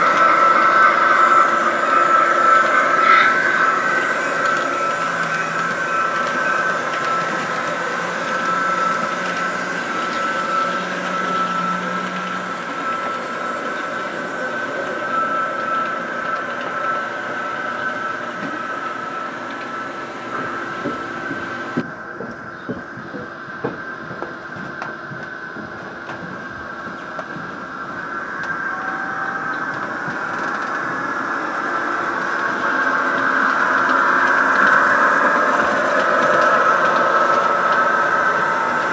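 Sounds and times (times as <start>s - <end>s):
model train motors whining: 0.0s - 38.9s.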